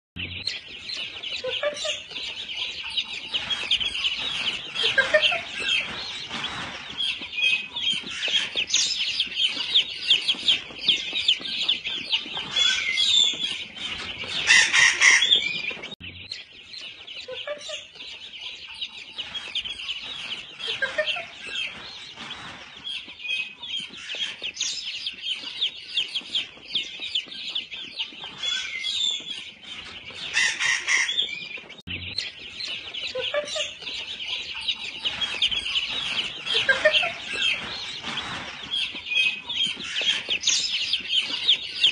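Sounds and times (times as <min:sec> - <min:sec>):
baby chicks peeping: 0:00.2 - 0:41.9.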